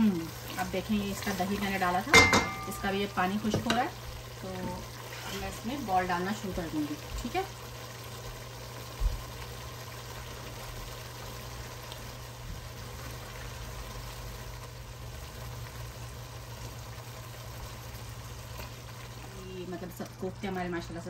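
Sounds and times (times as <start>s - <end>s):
sauce bubbling in a pot: 0.0s - 21.0s.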